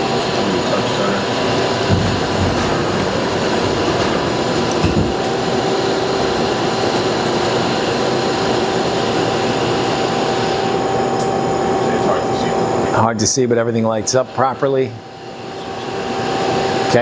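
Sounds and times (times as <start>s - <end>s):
machine hum and whine: 0.0s - 17.0s
steady tone: 0.0s - 17.0s.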